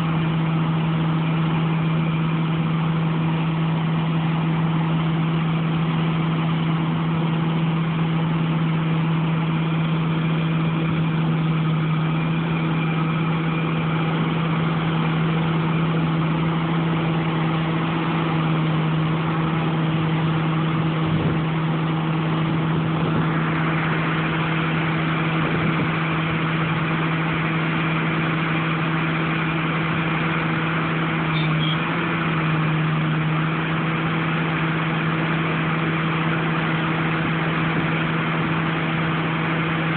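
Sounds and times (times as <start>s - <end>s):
harvester engine droning: 0.0s - 39.9s.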